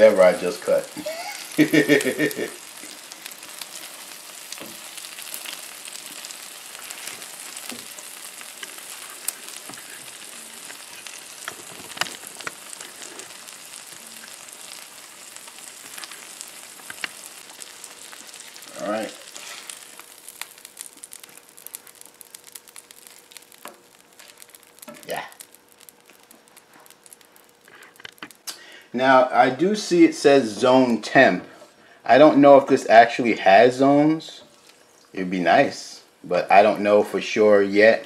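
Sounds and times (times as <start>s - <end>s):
eggs sizzling on a griddle: 0.0s - 38.0s.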